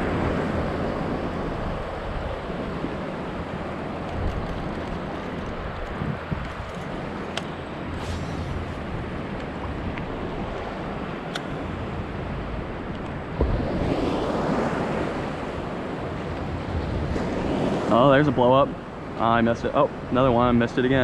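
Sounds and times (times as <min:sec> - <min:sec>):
surf washing: 0:00.0 - 0:21.0
wind on microphone: 0:00.0 - 0:21.0.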